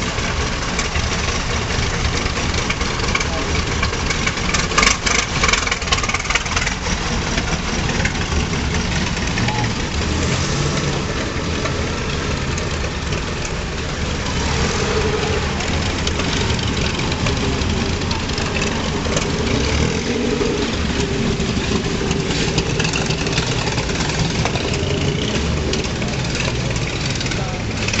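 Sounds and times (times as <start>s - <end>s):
racing car engines: 0.0s - 28.0s
spectators talking: 0.0s - 28.0s.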